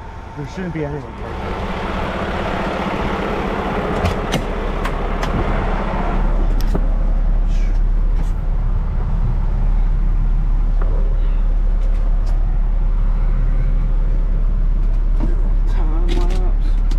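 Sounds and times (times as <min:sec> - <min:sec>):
truck engine rumbling: 0:00.0 - 0:16.9.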